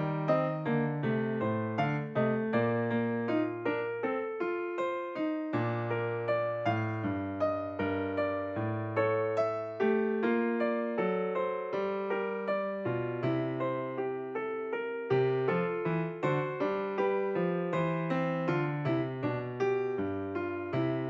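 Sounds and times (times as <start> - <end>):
bouncy piano tune: 0.0 - 21.0.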